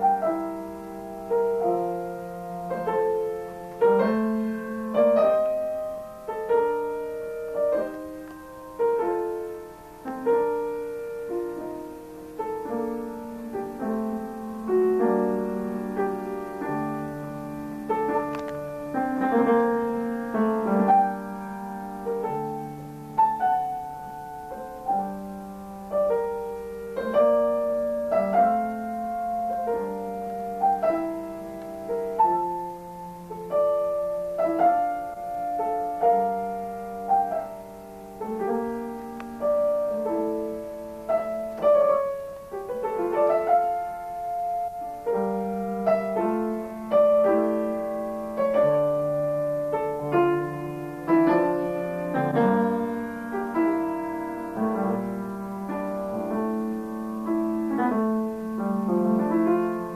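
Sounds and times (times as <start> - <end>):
solo piano classical piece: 0.0 - 59.9.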